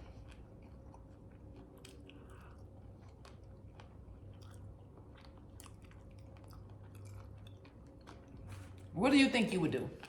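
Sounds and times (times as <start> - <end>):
chewing food: 0.0 - 8.9.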